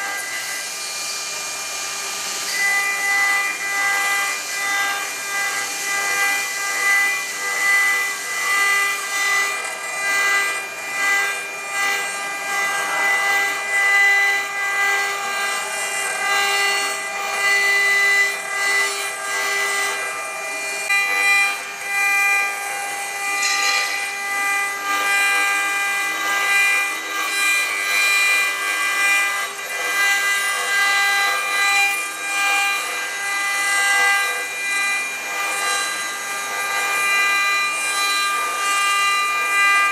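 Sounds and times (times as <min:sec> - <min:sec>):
cnc router spindle whining: 0:00.0 - 0:39.9.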